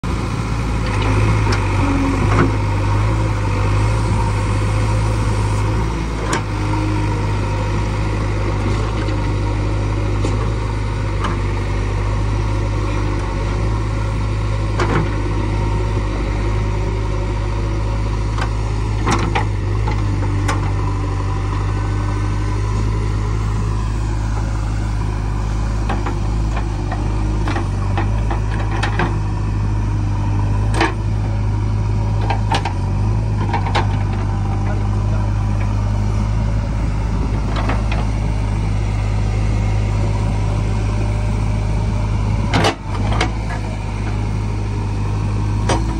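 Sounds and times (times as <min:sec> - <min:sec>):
diesel engine running under load: 0:00.0 - 0:45.9
hydraulic arm digging: 0:00.1 - 0:45.9.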